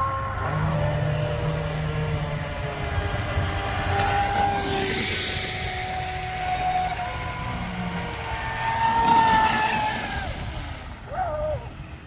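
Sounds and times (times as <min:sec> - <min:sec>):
toy speedboat motors whining: 0:00.0 - 0:12.0.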